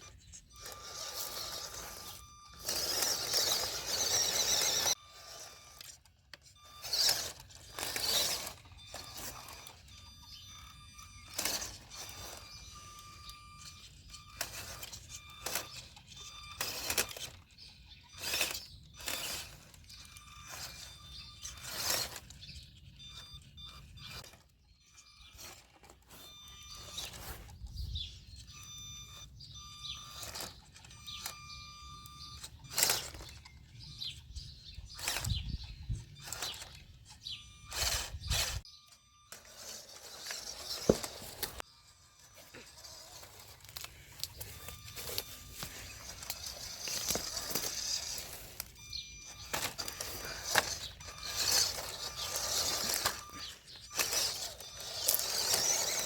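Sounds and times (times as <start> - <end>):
electric motor and gearbox whine: 0.0 - 56.0.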